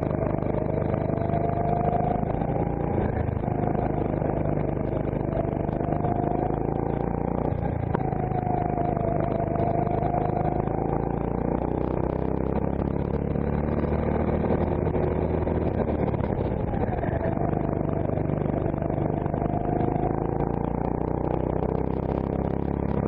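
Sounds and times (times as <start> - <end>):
go-kart engine revving: 0.0 - 23.0.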